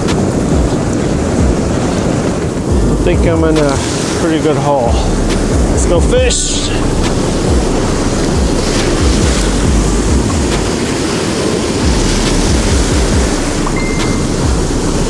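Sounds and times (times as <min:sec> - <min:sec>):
ocean surf washing on beach: 0:00.0 - 0:15.0
wind buffeting microphone: 0:00.0 - 0:15.0.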